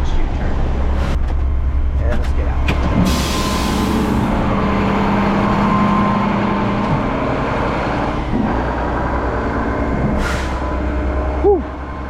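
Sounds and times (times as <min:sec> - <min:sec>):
garbage truck diesel engine: 0:00.0 - 0:12.0.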